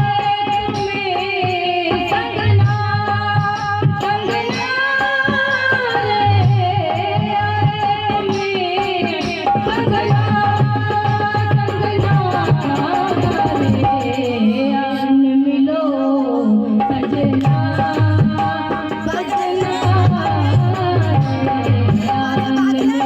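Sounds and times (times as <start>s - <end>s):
hand drum folk rhythm: 0.0s - 14.6s, 16.8s - 23.0s.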